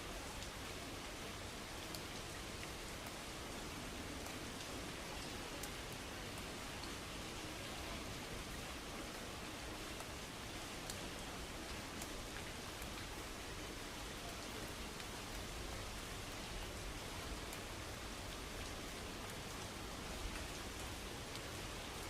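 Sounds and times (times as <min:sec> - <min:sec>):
heavy rain on a car: 0:00.0 - 0:22.0.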